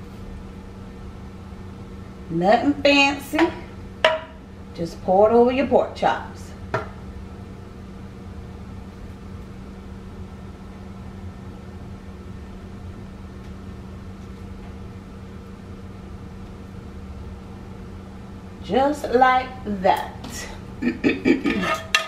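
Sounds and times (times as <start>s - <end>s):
kitchen appliance humming: 0.0s - 22.0s.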